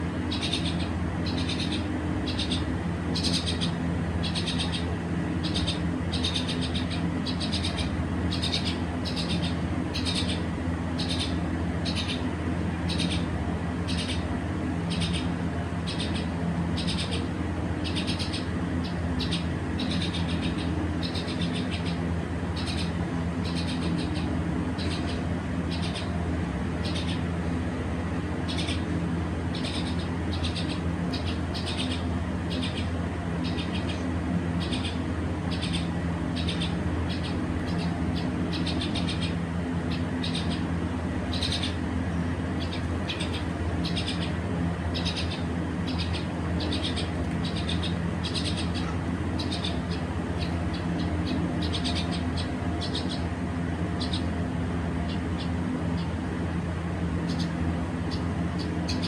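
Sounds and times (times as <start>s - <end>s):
steady low hum: 0.0s - 59.0s
bird chirping: 0.3s - 12.3s, 12.9s - 13.3s, 13.9s - 14.3s, 14.9s - 22.0s, 22.6s - 26.2s, 26.8s - 27.3s, 28.4s - 28.9s, 29.5s - 41.8s, 42.5s - 54.4s, 55.0s - 56.2s, 57.2s - 59.0s.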